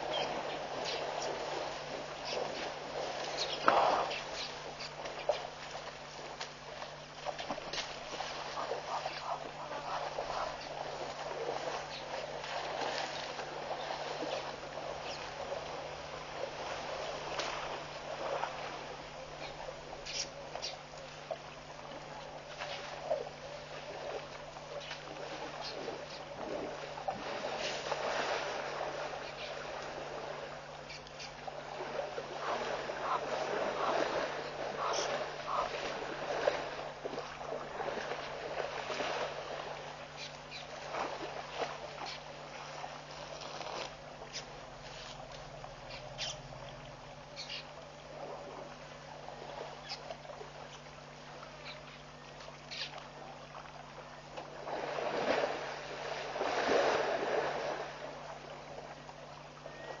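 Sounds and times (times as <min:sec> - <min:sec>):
steady low hum: 0:00.0 - 1:00.0
water splashing and sloshing: 0:00.0 - 1:00.0.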